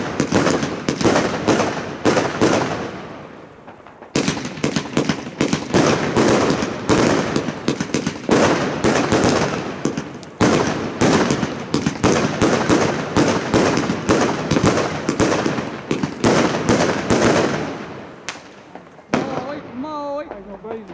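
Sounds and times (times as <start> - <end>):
fireworks launch thumps and bursts: 0.0 - 3.0, 3.7 - 19.6.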